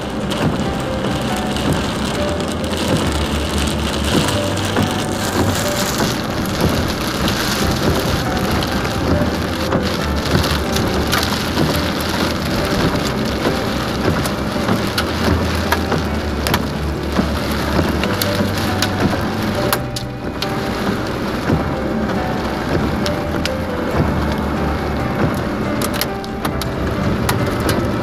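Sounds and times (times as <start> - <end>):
car driving on wet road: 0.0 - 28.0
heavy rain on car windshield: 0.0 - 28.0.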